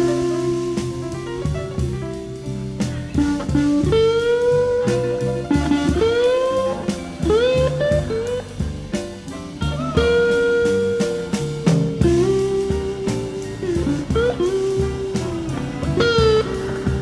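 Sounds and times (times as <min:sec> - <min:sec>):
low rhythmic backing: 0:00.0 - 0:17.0
slide guitar gliding notes: 0:00.0 - 0:17.0.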